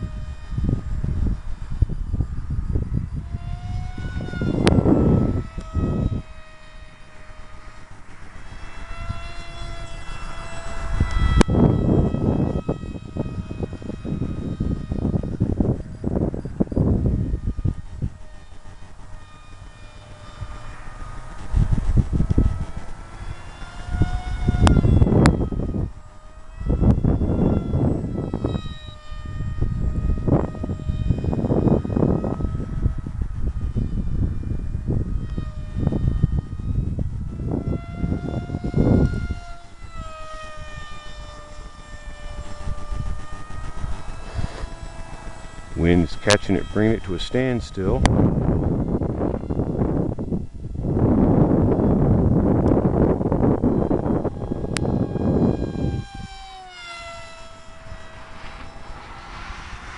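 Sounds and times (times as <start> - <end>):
model aircraft motor whining: 0.0 - 59.9
wind buffeting microphone: 0.0 - 59.9.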